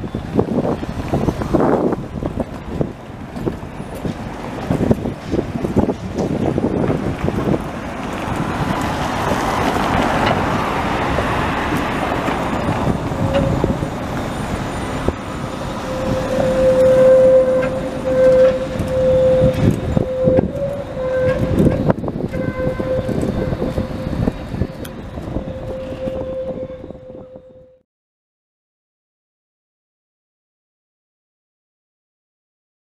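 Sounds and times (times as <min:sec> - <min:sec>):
wheels clacking over rail joints: 0:00.0 - 0:27.3
steel wheels squealing on rails: 0:00.0 - 0:27.8
tram running noise: 0:00.0 - 0:27.8.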